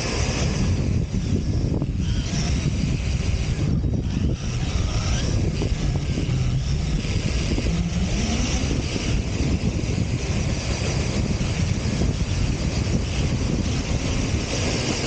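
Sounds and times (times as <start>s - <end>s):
electric motor rising in pitch: 0.0s - 15.0s
rc buggy running noise: 0.0s - 15.0s.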